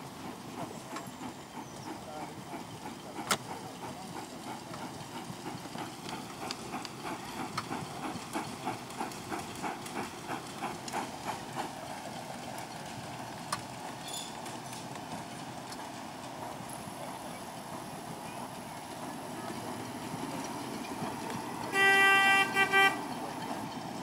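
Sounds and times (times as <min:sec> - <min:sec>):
steam locomotive chuffing: 0:00.0 - 0:24.0.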